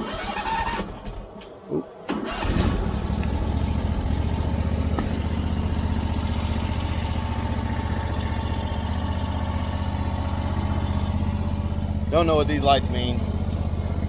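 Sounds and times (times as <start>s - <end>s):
small gasoline engine idling: 2.4s - 14.0s.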